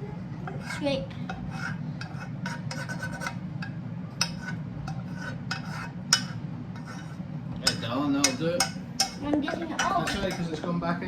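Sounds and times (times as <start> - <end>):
spoon scraping cookware: 0.4 - 10.6.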